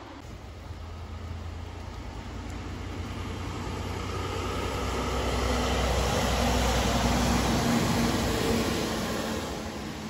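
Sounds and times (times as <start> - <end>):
truck diesel engine rumble: 0.0 - 10.0.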